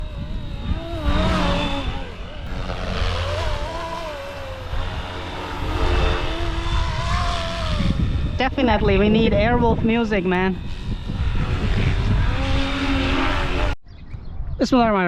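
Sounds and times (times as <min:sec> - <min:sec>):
rc helicopter rotors whining: 0:00.0 - 0:13.8
wind rumbling on microphone: 0:00.0 - 0:15.0.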